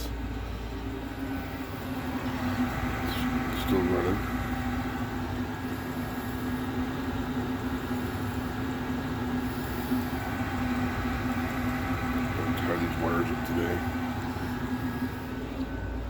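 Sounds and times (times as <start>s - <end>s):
air heater blower humming: 0.0s - 16.0s.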